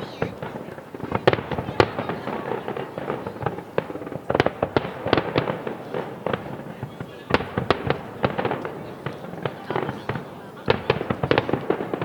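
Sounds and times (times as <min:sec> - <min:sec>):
fireworks crackling: 0:00.0 - 0:12.0
fireworks shells bursting with bangs: 0:00.0 - 0:12.0.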